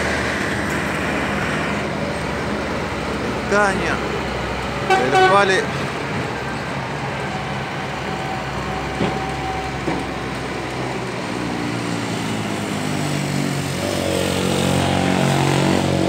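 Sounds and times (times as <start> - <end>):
road noise: 0.0 - 16.0
truck diesel engine driving past: 0.0 - 16.0.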